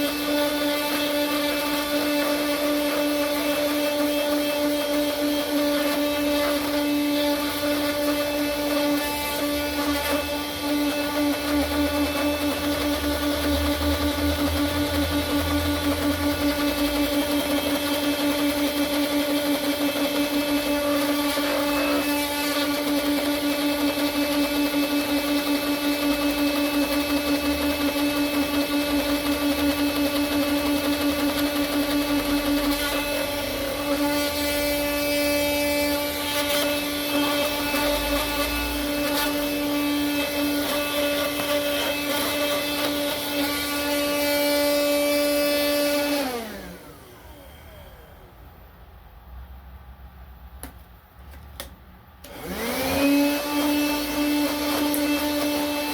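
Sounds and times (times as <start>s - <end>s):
vacuum cleaner motor whining: 0.0s - 48.6s, 51.6s - 55.9s.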